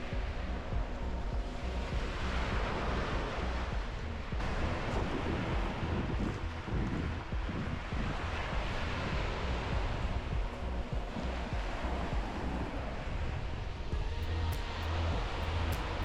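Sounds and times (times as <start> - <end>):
wind buffeting microphone: 0.0 - 16.0
small waves breaking on beach: 0.2 - 13.4.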